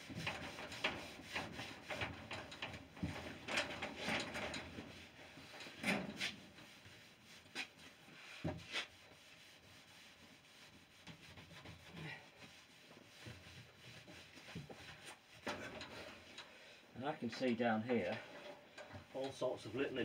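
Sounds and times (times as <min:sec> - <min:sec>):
cloth rubbing on wood: 0:00.0 - 0:16.4.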